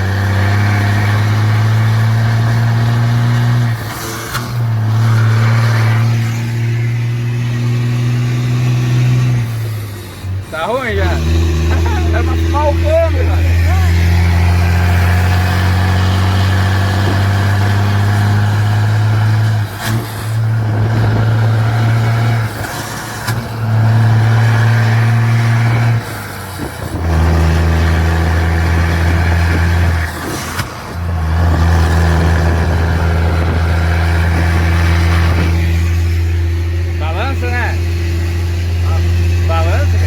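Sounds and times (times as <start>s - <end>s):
truck engine rumbling: 0.0s - 40.0s.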